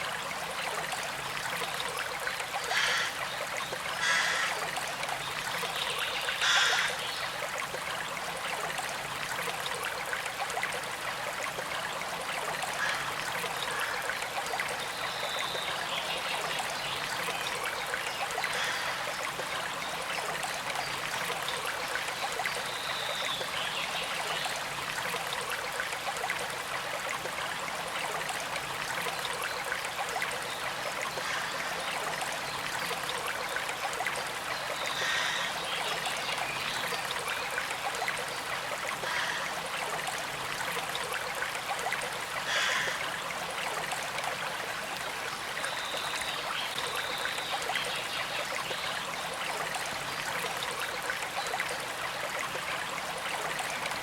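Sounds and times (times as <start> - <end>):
water trickling over stones: 0.0 - 54.0.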